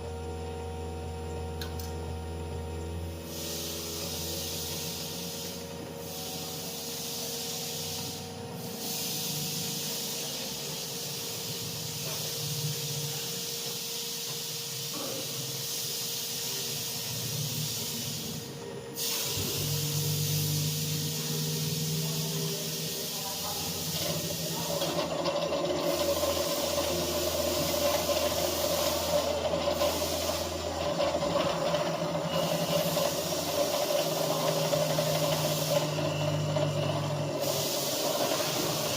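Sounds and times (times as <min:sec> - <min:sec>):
cnc router milling steel: 0:00.0 - 0:38.9.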